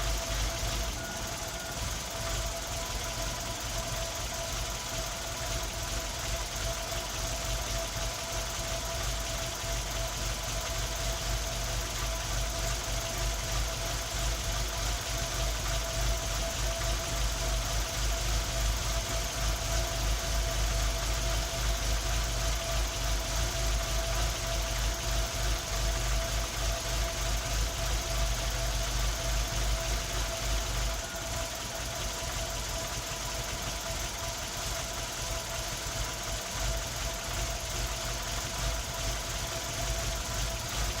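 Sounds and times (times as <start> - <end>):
car engine idling unevenly: 0.0 - 41.0.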